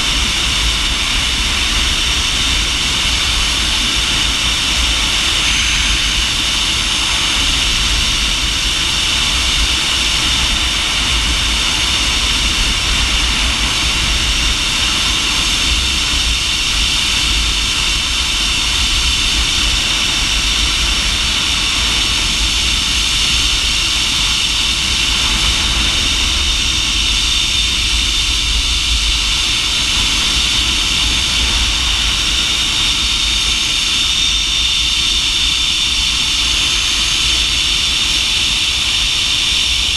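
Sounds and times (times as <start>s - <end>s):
wind buffeting microphone: 0.0s - 39.9s
zipline trolley whining along cable: 0.0s - 39.9s.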